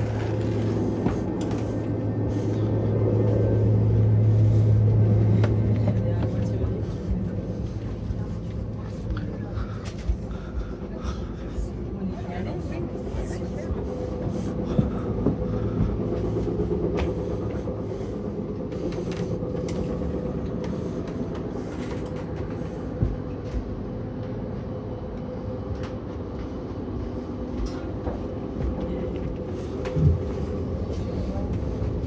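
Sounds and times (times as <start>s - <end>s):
constant hum: 0.0s - 32.0s
train rumbling on rails: 0.0s - 32.0s.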